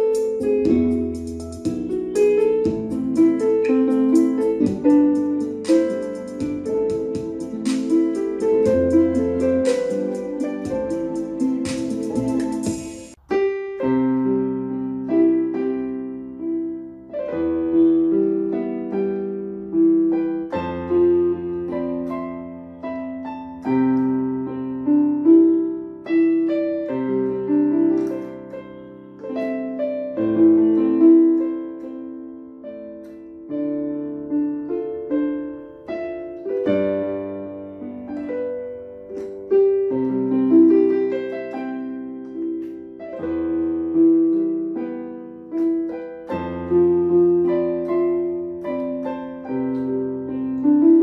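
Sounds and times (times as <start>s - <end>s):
electronic keyboard melody: 0.0s - 51.0s.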